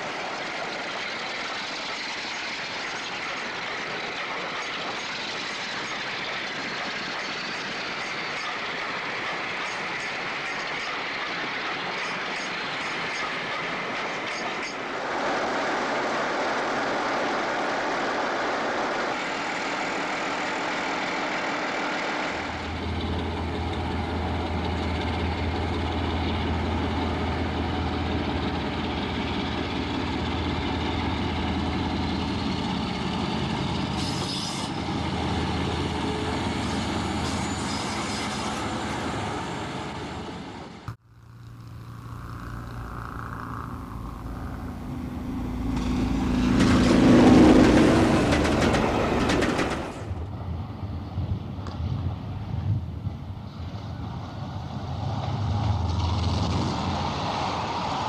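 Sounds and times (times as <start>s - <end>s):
train wheel and rail noise: 0.0s - 41.0s, 41.6s - 58.0s
diesel engine drone: 0.0s - 58.0s.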